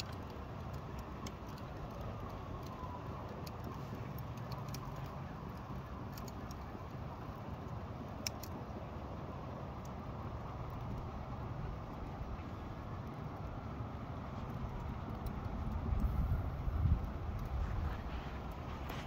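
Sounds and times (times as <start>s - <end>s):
fire burning in a firebox: 0.0s - 19.0s
fire crackling and ticking: 0.0s - 19.0s.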